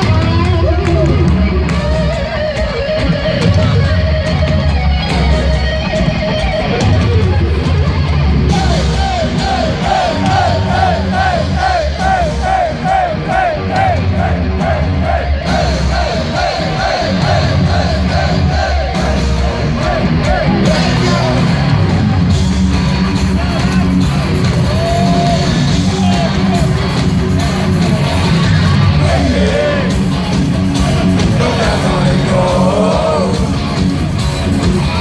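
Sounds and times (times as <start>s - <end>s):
crowd yelling and singing: 0.0s - 35.0s
live heavy metal band: 0.0s - 35.0s.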